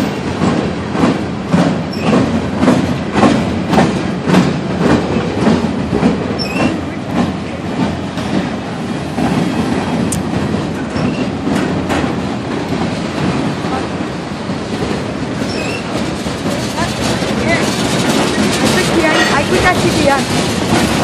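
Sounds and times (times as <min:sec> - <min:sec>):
freight train rumble: 0:00.0 - 0:21.0
wheels clacking over rail joints: 0:00.0 - 0:21.0.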